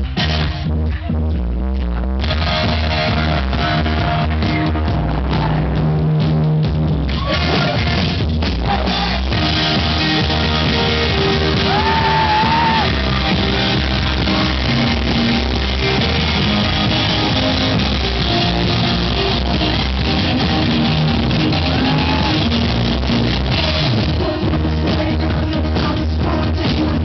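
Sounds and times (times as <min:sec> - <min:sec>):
bass guitar: 0:00.0 - 0:27.0
distorted electric guitars: 0:00.0 - 0:27.0
drum kit: 0:00.0 - 0:27.0.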